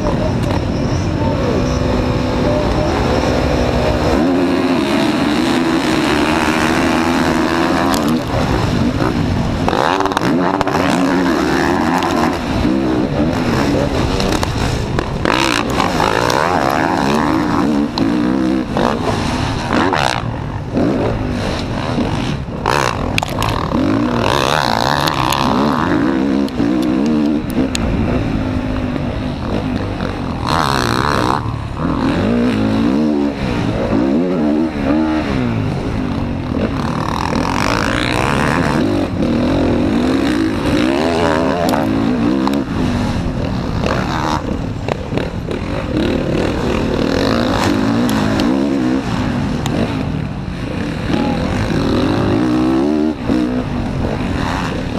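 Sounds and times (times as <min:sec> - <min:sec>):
motorbike engine revving: 0:00.0 - 0:54.9
wind rush: 0:00.0 - 0:54.9.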